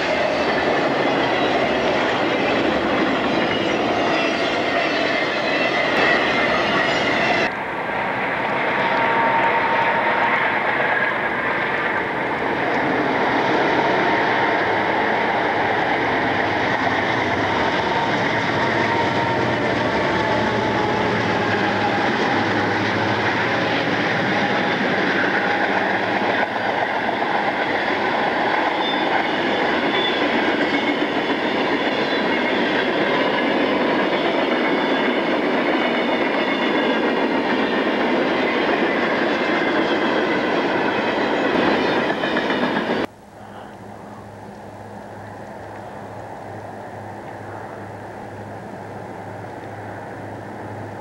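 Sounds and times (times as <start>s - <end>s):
train passing close by: 0.0s - 51.0s.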